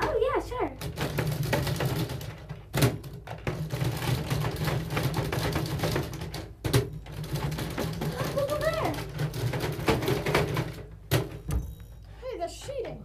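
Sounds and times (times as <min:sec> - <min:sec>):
plastic toy robots clattering: 0:00.0 - 0:11.5
plastic knock: 0:00.8 - 0:11.6.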